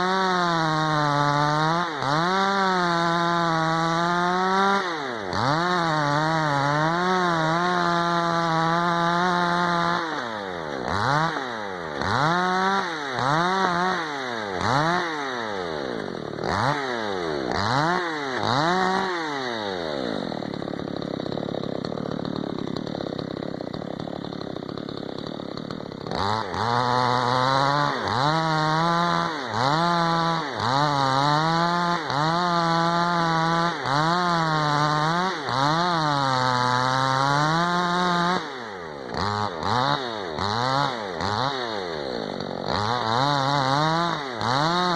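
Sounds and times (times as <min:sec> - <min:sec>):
chainsaw engine revving: 0:00.0 - 0:44.9.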